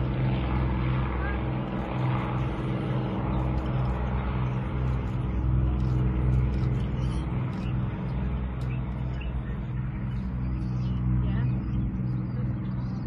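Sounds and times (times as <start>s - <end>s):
propeller plane engines droning: 0.0s - 13.0s.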